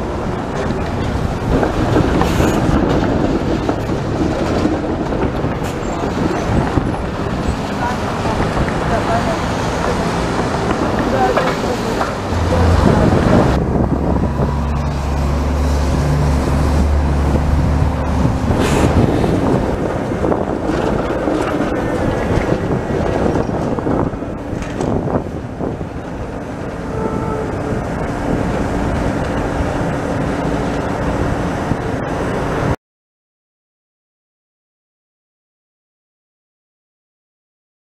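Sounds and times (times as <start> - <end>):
streetcar wheels rumbling: 0.0 - 32.8.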